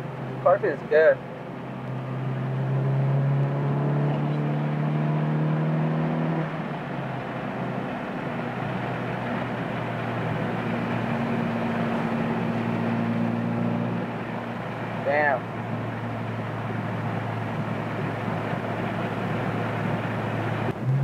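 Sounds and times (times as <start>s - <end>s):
car engine running: 0.0s - 21.0s
road noise: 0.0s - 21.0s.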